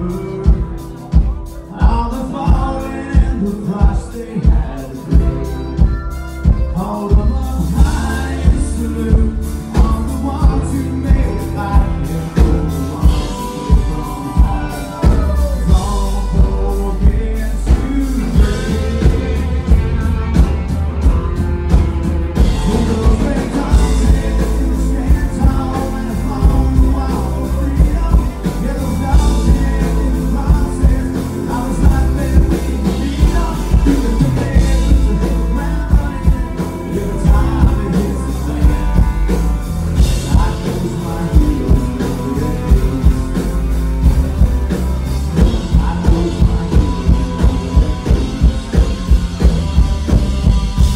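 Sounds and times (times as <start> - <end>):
country band playing: 0.0 - 50.9.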